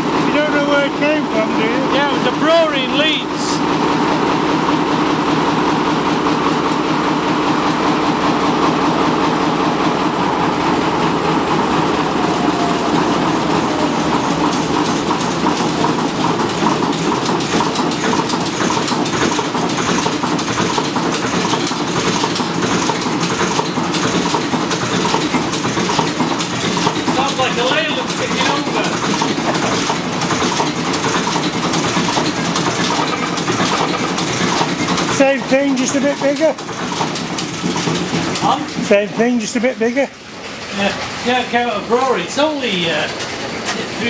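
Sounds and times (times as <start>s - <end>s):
diesel engine clattering: 0.0s - 44.0s.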